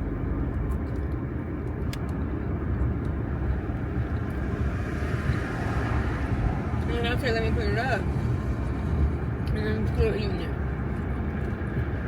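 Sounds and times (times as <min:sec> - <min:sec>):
truck engine rumble from inside cab: 0:00.0 - 0:12.0.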